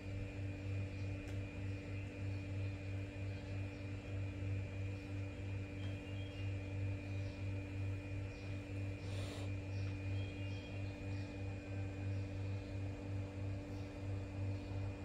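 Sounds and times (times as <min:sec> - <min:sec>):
low throbbing machine hum: 0:00.0 - 0:15.0.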